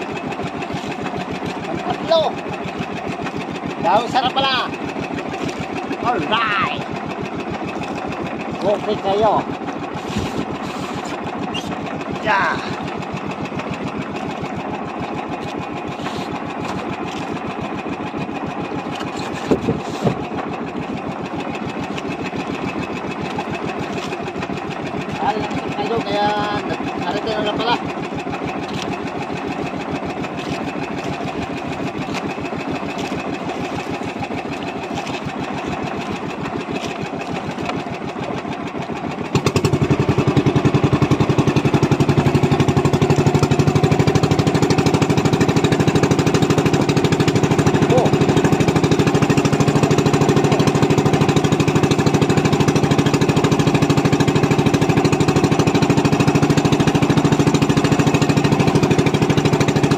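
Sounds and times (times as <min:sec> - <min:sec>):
boat engine knocking: 0:00.0 - 0:59.9.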